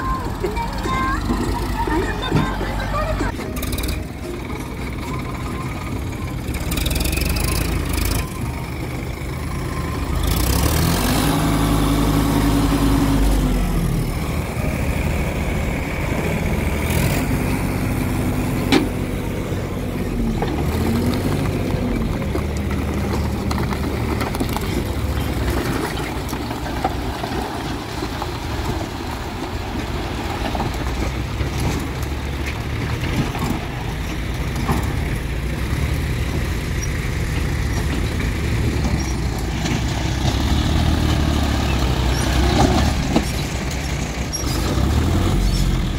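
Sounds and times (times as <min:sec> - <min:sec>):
tractor diesel engines revving: 0:00.0 - 0:45.9.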